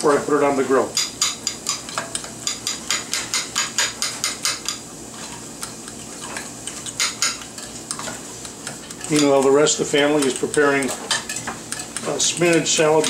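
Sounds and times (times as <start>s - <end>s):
fork clicking against a bowl: 1.0s - 4.8s, 5.6s - 13.0s.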